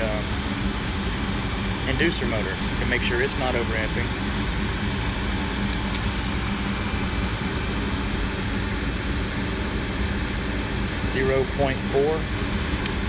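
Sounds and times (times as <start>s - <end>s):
gas furnace hum and air rush: 0.0s - 13.0s.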